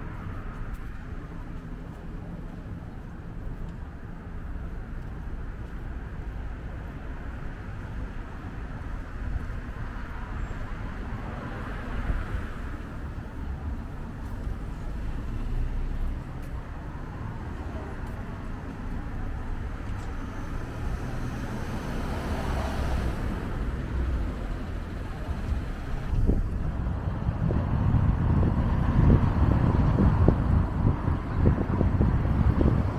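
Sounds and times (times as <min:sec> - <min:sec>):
traffic rumble: 0:00.0 - 0:32.9
vehicles passing: 0:00.0 - 0:32.9.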